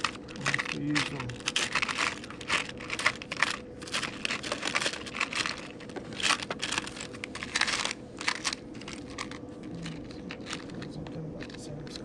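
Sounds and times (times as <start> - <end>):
hands rummaging through hardware: 0.0 - 11.6.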